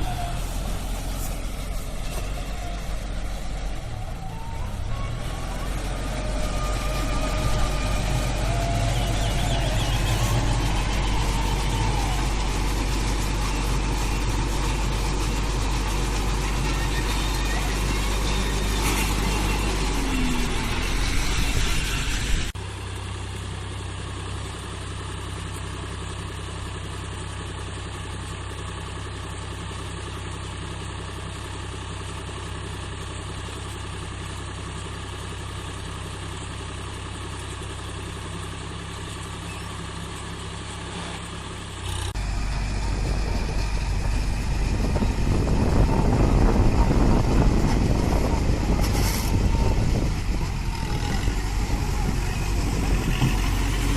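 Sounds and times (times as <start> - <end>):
engine running steadily: 0.0 - 53.9.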